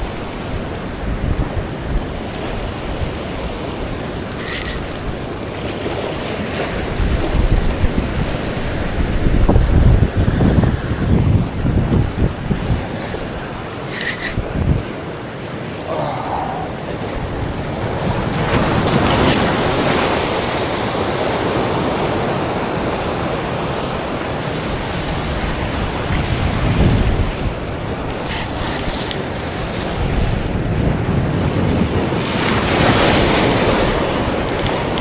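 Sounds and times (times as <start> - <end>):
ocean surf breaking on rocks: 0.0 - 35.0.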